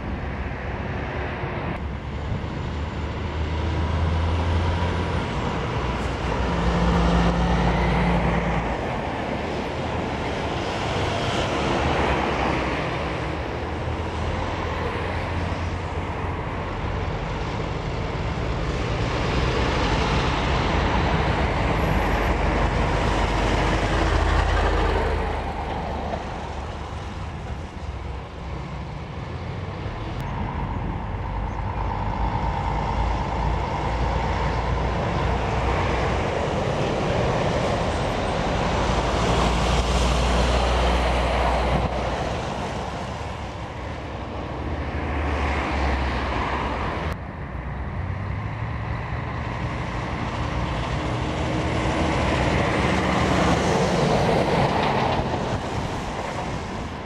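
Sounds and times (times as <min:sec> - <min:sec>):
diesel lorries passing: 0:00.0 - 0:57.0.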